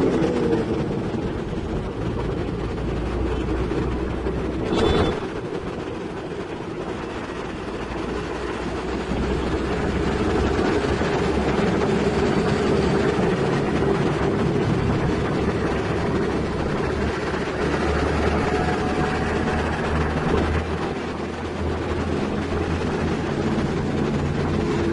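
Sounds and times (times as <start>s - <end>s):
diesel machinery rumbling: 0.0s - 24.9s.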